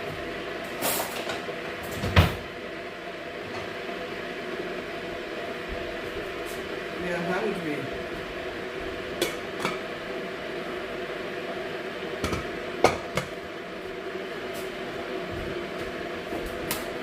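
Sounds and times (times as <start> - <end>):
steady humming background: 0.0 - 17.0.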